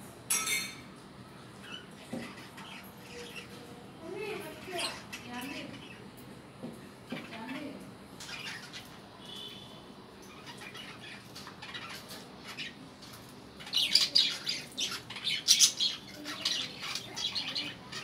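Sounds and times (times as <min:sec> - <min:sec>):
parrots chirping and squawking: 0:01.6 - 0:06.2, 0:07.1 - 0:09.2, 0:10.2 - 0:18.0.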